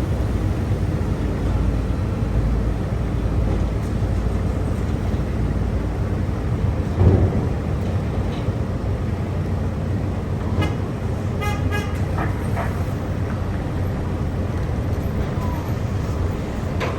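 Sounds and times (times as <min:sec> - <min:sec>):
outdoor rumble: 0:00.0 - 0:16.9.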